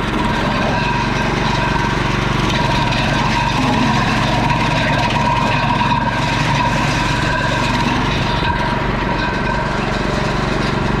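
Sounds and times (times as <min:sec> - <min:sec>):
mechanical whine: 0:00.0 - 0:11.0
wood chipper running: 0:00.0 - 0:11.0.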